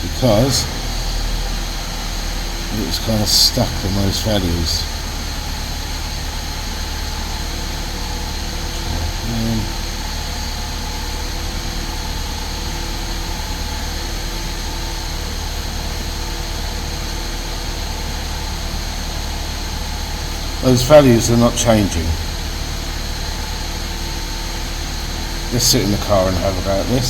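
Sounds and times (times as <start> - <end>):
car engine idling with misfire: 0.0 - 27.0.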